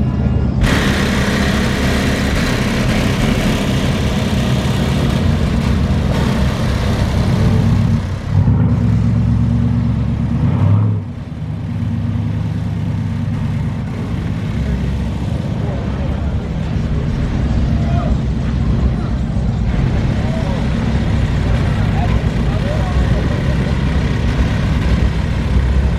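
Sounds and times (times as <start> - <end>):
car engine running: 0.0 - 25.9.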